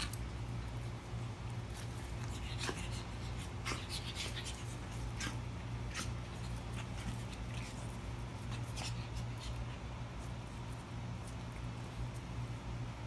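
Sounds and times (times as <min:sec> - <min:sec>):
puppies scuffling on concrete: 0:00.0 - 0:13.0
steady low hum: 0:00.0 - 0:13.0.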